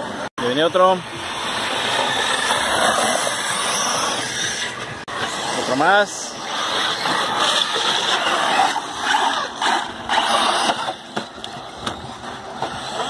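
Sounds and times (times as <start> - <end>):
rc trucks rushing on dirt: 0.0 - 13.0.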